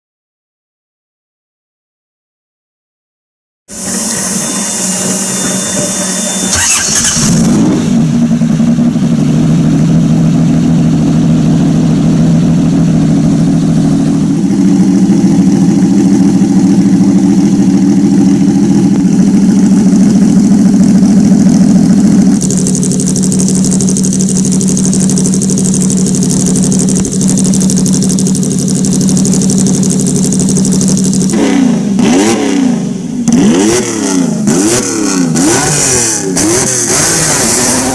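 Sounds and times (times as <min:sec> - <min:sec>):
car engine running: 0:03.7 - 0:37.9
engine throttle blips: 0:03.7 - 0:37.9.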